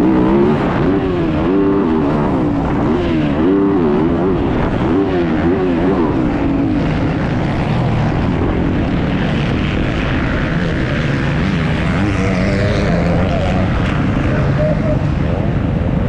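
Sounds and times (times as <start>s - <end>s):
motocross bike engine revving: 0.0s - 15.2s.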